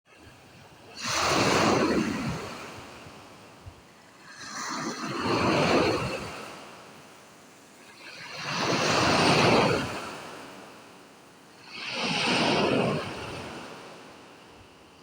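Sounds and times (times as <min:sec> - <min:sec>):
waves breaking on shore: 0:00.1 - 0:15.0.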